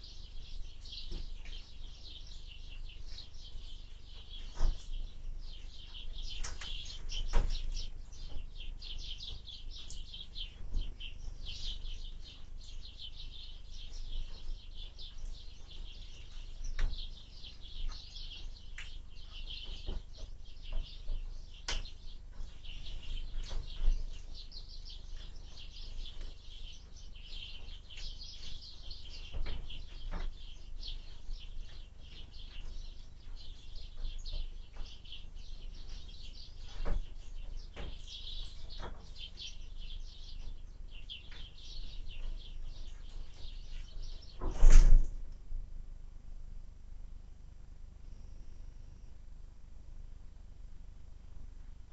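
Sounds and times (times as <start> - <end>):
small birds chirping: 0.0 - 45.2.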